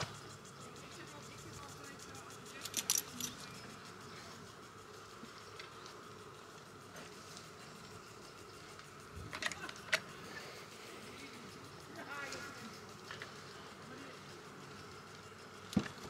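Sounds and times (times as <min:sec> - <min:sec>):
faint insect buzz: 0:00.0 - 0:16.0.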